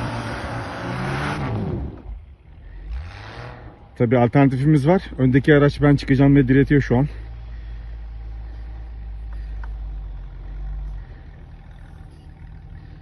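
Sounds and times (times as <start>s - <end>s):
truck engine under load: 0.0s - 13.0s.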